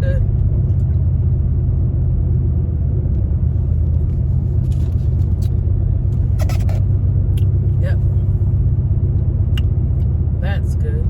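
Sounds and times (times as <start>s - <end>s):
car rumble from inside cabin: 0.0s - 11.0s.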